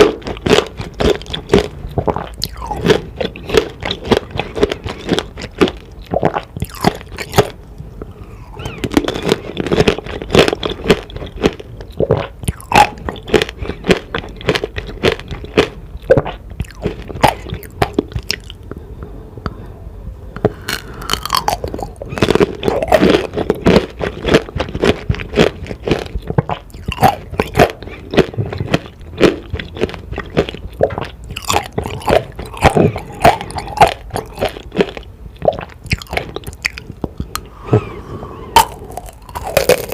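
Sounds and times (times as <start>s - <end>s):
crunching candied fruit: 0.0s - 7.6s, 8.4s - 18.6s, 20.4s - 37.5s, 38.6s - 39.9s.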